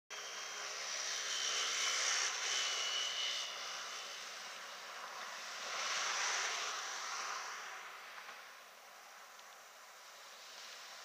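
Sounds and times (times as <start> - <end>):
jet engines running with whine: 0.1 - 11.0.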